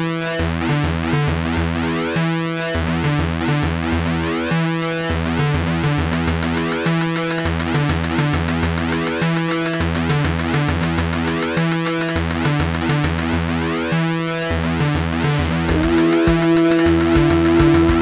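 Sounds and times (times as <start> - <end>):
synthesizer music: 0.0 - 18.0.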